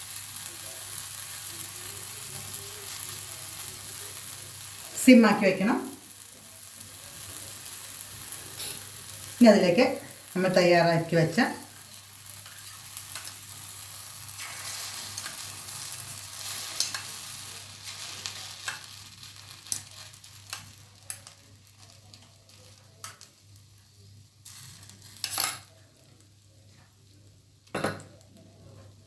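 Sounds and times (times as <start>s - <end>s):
mixture sizzling in oil: 0.0s - 29.0s.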